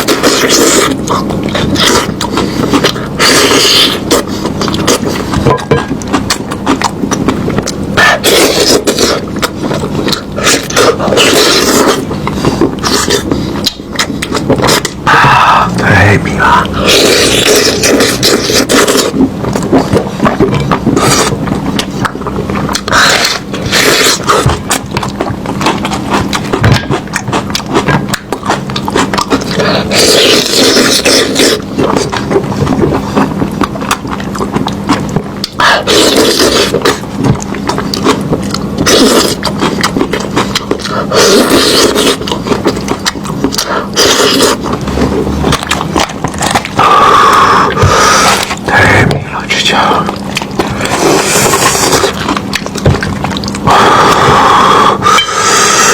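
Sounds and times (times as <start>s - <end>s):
meat being chewed: 0.0s - 55.9s
steady low hum: 0.0s - 55.9s.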